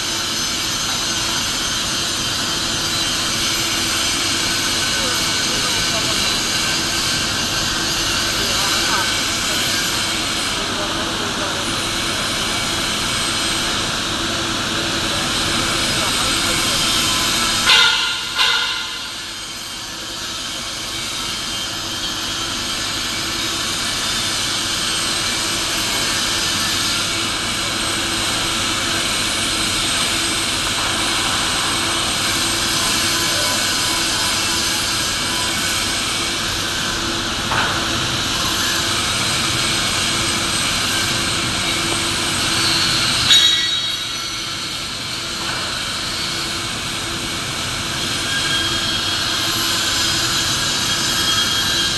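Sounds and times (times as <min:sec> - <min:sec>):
machinery hiss and hum: 0:00.0 - 0:51.9.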